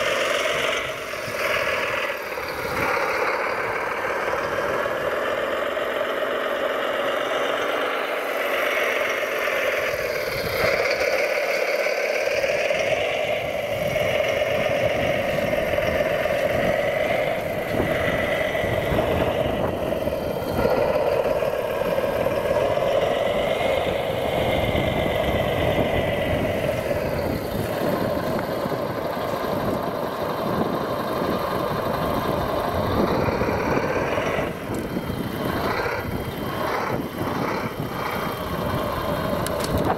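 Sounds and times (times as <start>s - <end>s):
model motor and gear whine: 0.0s - 39.9s.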